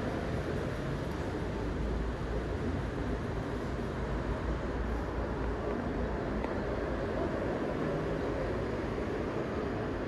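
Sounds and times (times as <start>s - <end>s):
low rumble of vehicle noise: 0.0s - 10.0s.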